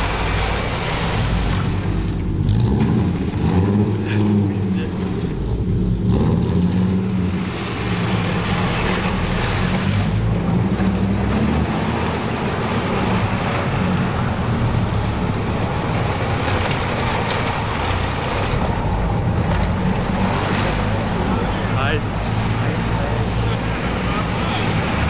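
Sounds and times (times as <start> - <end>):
car engine hum: 0.0 - 25.0
road and wind noise: 0.0 - 25.0.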